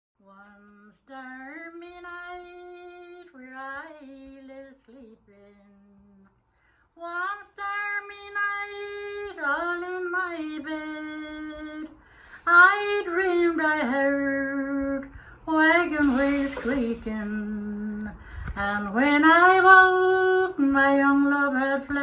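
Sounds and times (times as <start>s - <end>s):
woman singing unaccompanied ballad: 0.2s - 22.0s.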